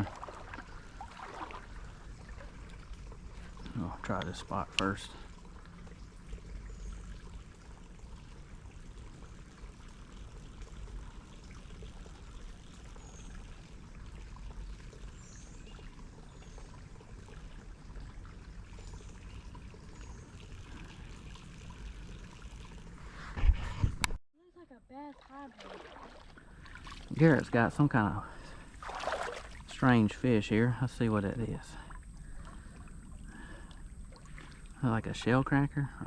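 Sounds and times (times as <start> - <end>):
creek water trickling: 0.0 - 23.4, 24.6 - 36.0.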